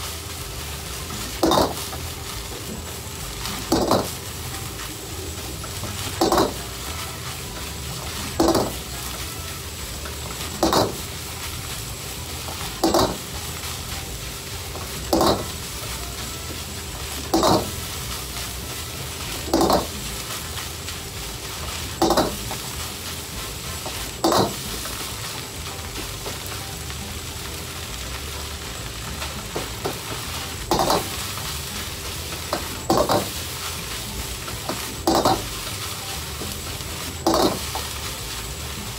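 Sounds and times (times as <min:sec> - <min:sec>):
ladle clanking and scraping wok: 0:00.0 - 0:38.9
rice sizzling in a wok: 0:00.0 - 0:38.9.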